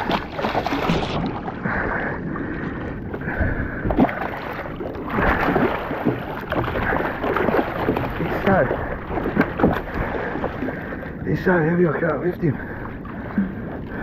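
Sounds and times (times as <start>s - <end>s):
fish thrashing and splashing: 0.0s - 11.2s.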